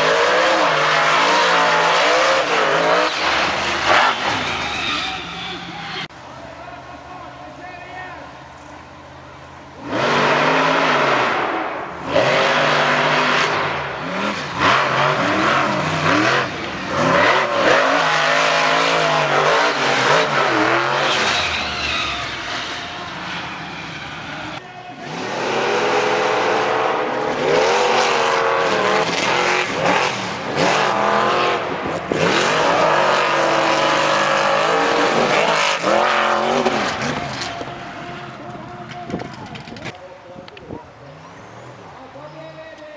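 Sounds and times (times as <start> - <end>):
monster truck engines revving: 0.0 - 42.9.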